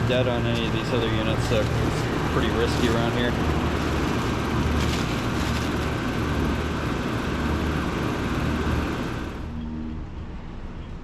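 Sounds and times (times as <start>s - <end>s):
condenser fan rushing: 0.0s - 9.5s
low compressor hum: 0.0s - 10.9s.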